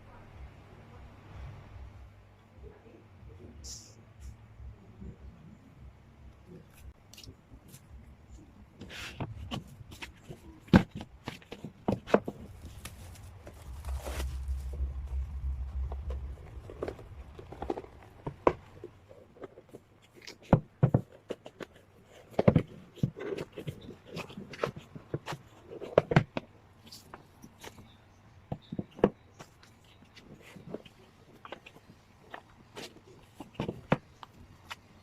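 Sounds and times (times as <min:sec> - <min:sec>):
hands handling album packaging: 0:06.5 - 0:35.0.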